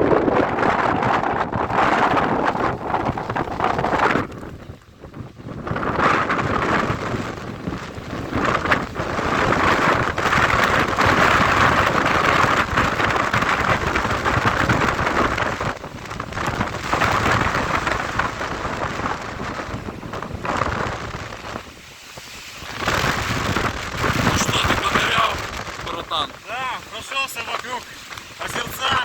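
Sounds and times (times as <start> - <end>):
gusting wind with blowing snow: 0.0 - 29.0.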